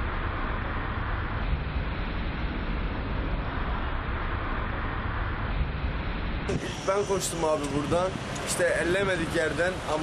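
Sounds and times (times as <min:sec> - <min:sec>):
street traffic rumble: 0:00.0 - 0:10.0.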